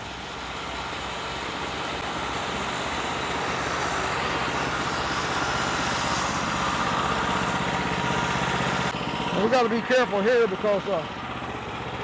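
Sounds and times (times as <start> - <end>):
band sawmill running: 0.0 - 12.0.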